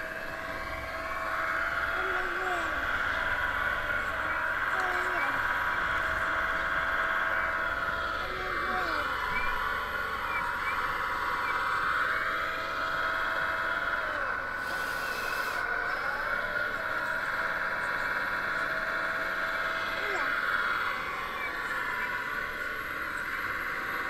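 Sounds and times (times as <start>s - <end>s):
hydraulic pumps whining: 0.0s - 24.0s.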